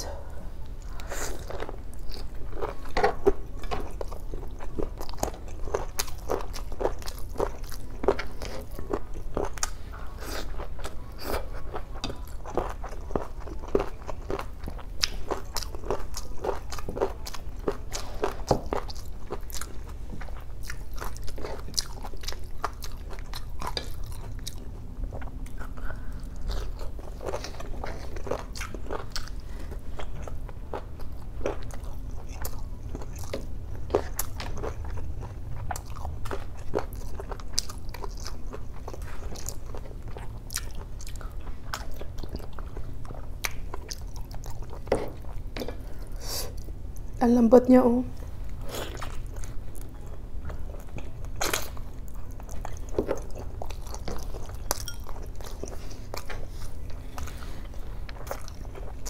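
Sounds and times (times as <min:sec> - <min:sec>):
person chewing food: 0:00.0 - 0:47.2, 0:48.2 - 0:59.0
low steady hum: 0:00.0 - 0:59.0.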